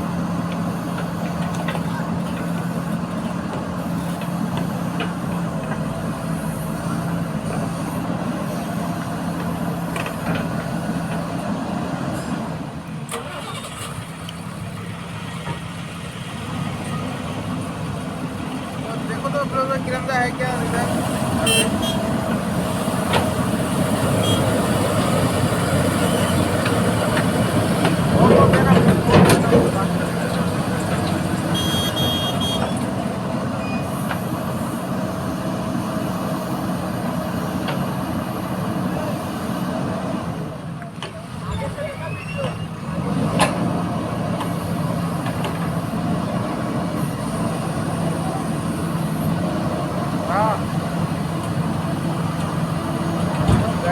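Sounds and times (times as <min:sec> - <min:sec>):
heavy diesel machinery running: 0:00.0 - 0:53.9.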